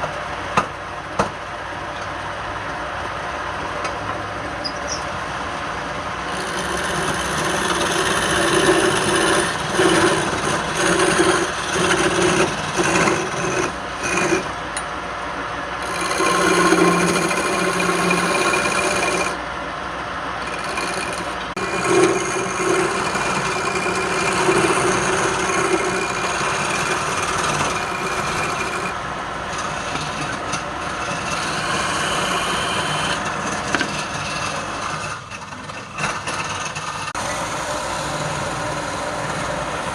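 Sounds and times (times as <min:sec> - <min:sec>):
lathe humming: 0:05.1 - 0:39.9
tool scraping spinning wood: 0:06.0 - 0:14.9, 0:15.8 - 0:19.4, 0:20.4 - 0:39.9.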